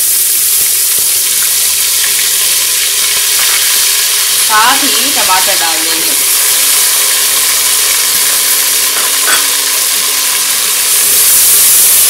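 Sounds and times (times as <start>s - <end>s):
tomatoes sizzling in hot oil: 0.0s - 12.0s.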